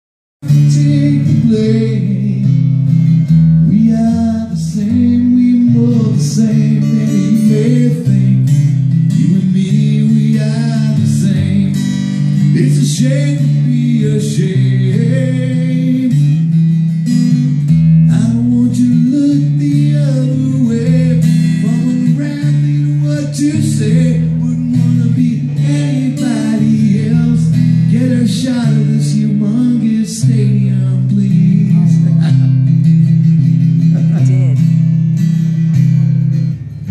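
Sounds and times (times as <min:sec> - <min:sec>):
man singing into microphone: 0:00.4 - 0:02.6, 0:03.6 - 0:16.4, 0:18.0 - 0:32.8, 0:34.0 - 0:34.8
acoustic guitar strumming: 0:00.4 - 0:36.9.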